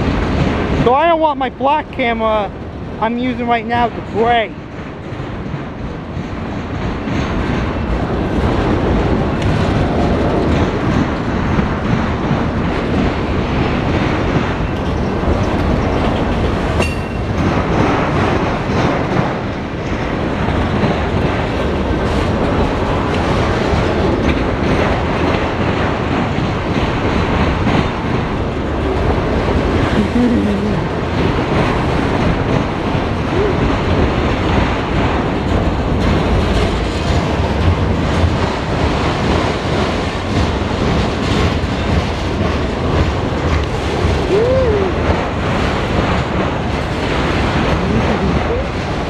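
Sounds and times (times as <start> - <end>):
freight train wheels clattering: 3.7 - 49.0.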